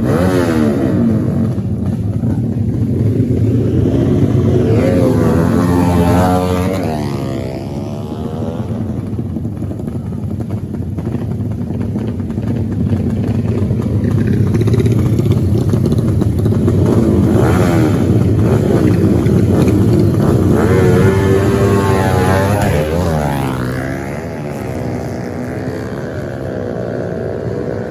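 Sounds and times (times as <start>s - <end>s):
off-road motorcycle engines revving: 0.0s - 27.9s.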